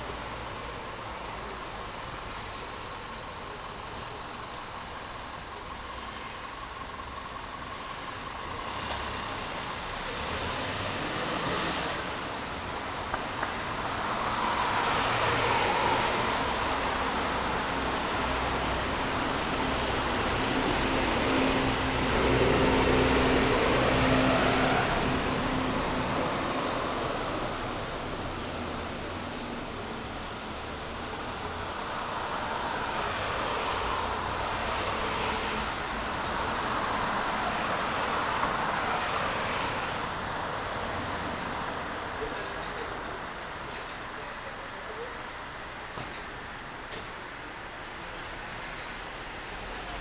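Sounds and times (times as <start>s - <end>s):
low traffic-like hum: 0.0s - 50.0s.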